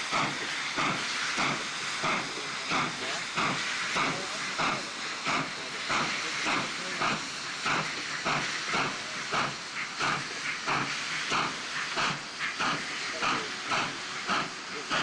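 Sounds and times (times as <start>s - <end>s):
steam hiss: 0.0s - 15.0s
steam locomotive exhaust beats: 0.0s - 15.0s.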